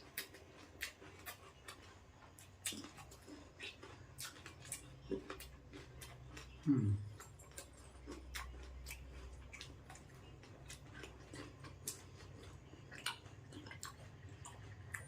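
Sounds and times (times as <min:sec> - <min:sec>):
chewing fruit: 0:00.0 - 0:15.0.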